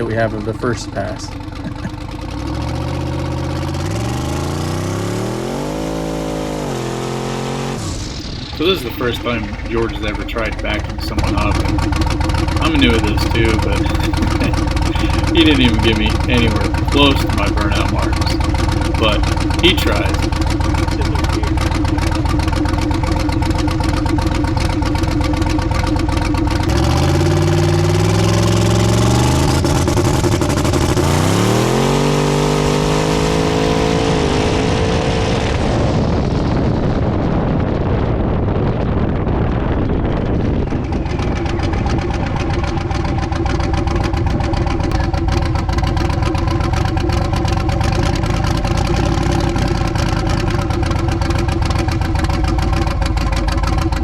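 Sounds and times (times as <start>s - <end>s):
truck engine accelerating: 0.0s - 54.0s.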